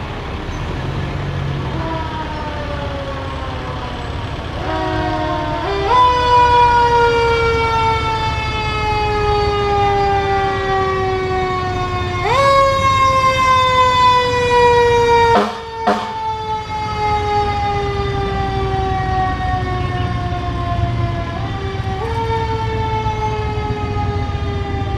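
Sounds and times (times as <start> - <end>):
fire engine siren wailing: 0.0 - 24.9
truck engines rumbling: 0.0 - 24.9.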